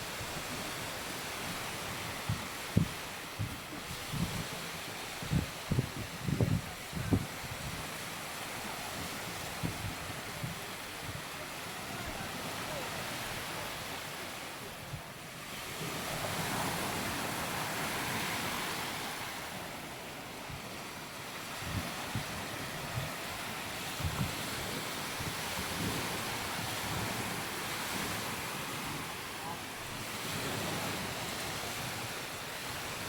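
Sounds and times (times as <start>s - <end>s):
waves washing on sandy beach: 0.0s - 33.0s
wind on microphone: 0.0s - 33.0s.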